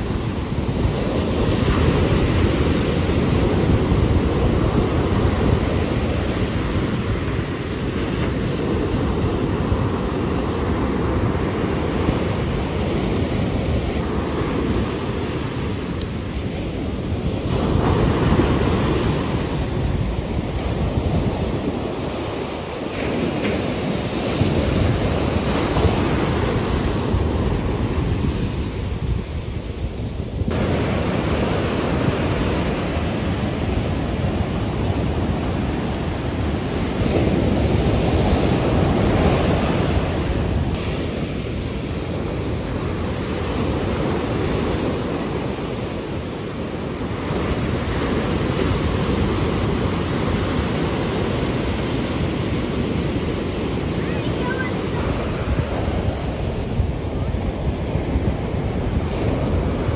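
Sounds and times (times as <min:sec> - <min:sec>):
surf breaking on shore: 0:00.0 - 0:59.9
wind buffeting microphone: 0:00.0 - 0:59.9.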